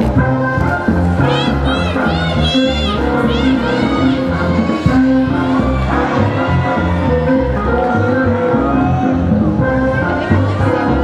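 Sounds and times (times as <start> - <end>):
quickstep dance music: 0.0 - 11.0.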